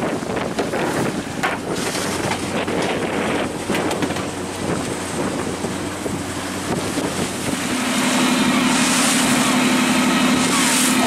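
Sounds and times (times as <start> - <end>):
boat engine running: 0.0 - 11.0
open water noise: 0.0 - 11.0
wind buffeting microphone: 0.0 - 11.0.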